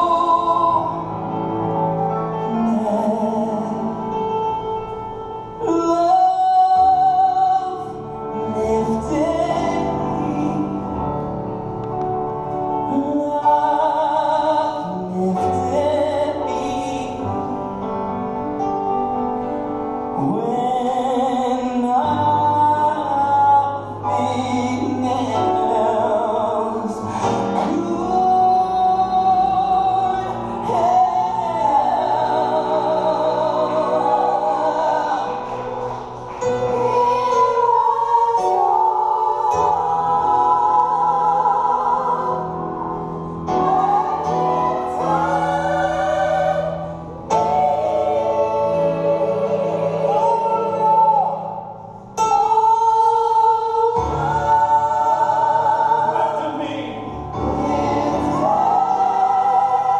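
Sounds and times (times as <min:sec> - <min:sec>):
person singing with vibrato: 0:00.0 - 0:18.8, 0:19.4 - 0:59.9.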